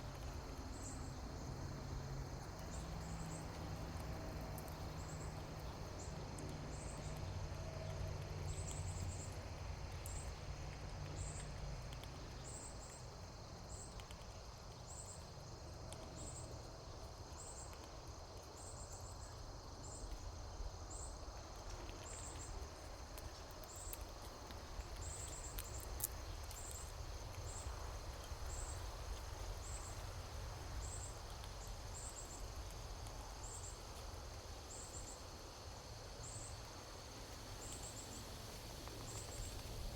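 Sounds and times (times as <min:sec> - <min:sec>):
insect chirping: 0:00.0 - 0:39.9.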